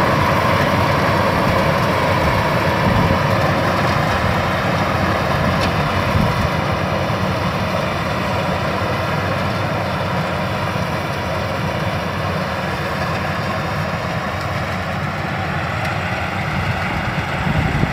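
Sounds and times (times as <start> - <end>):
combine harvester engine running: 0.0 - 17.9.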